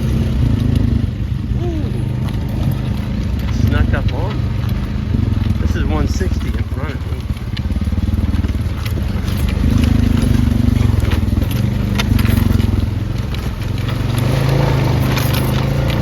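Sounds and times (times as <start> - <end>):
vehicle engine running: 0.0 - 16.0
sharp clicks and cracks: 2.1 - 16.0.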